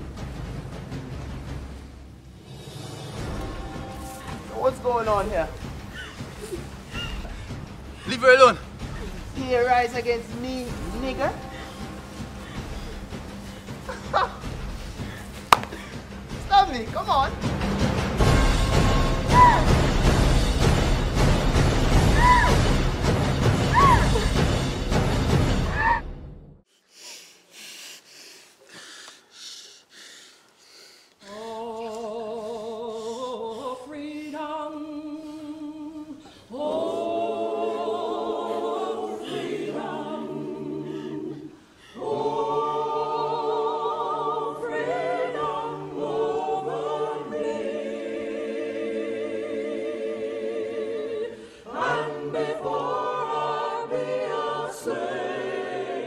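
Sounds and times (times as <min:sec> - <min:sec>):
choir singing held chords: 0:02.4 - 0:25.9, 0:31.2 - 0:56.0.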